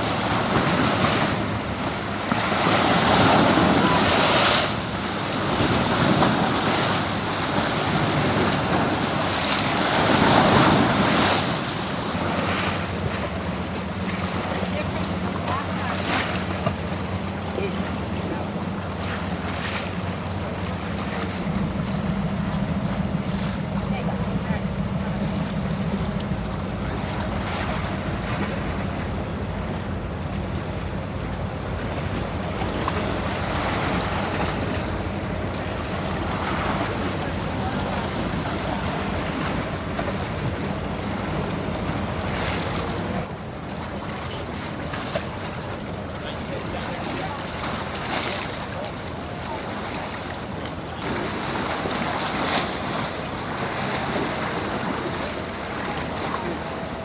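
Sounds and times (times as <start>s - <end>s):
boat engines droning: 0.0s - 57.0s
surf washing against jetty: 0.0s - 57.0s.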